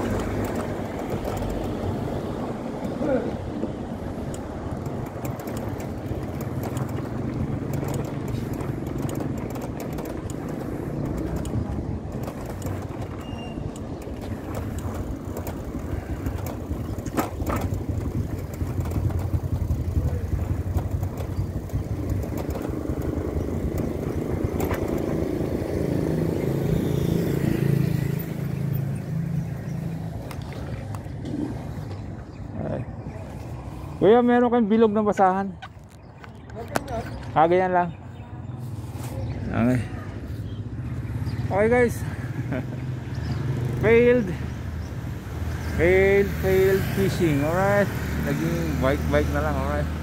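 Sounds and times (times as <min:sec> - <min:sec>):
bicycle road noise: 0:00.0 - 0:50.0
passing traffic engines: 0:00.0 - 0:50.0.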